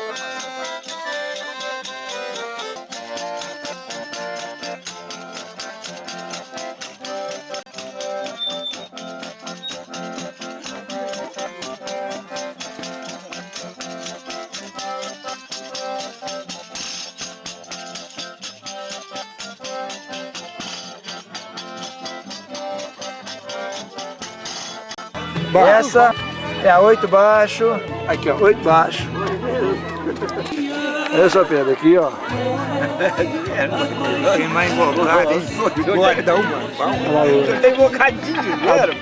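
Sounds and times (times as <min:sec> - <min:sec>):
button accordion melody: 0:00.0 - 0:39.0
pandeiro jingling beat: 0:00.0 - 0:39.0.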